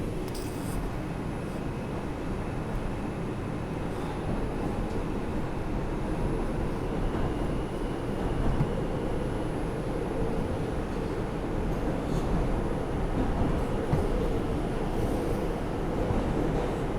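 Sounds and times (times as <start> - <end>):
subway car wheels and motors rumbling: 0.0 - 16.9.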